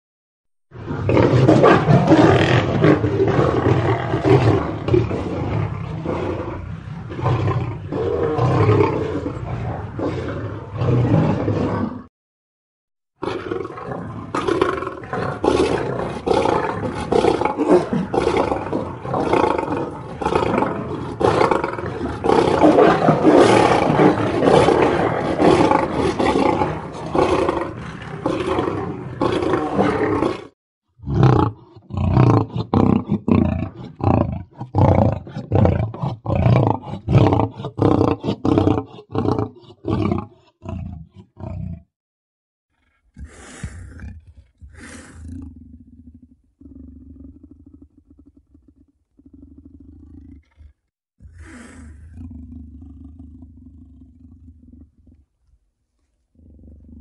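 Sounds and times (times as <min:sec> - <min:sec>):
lions roaring: 0:00.8 - 0:12.1, 0:13.2 - 0:41.9, 0:43.2 - 0:54.9.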